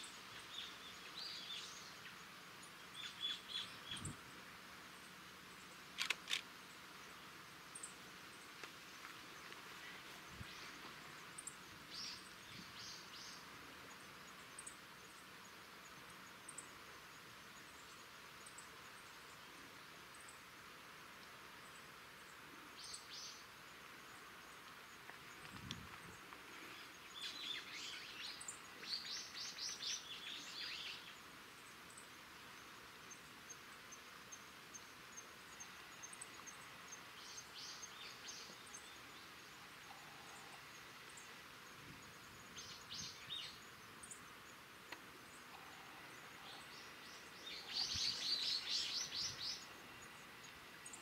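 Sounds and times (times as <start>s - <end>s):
faint outdoor background: 0.0s - 51.0s
small birds chirping: 0.0s - 51.0s.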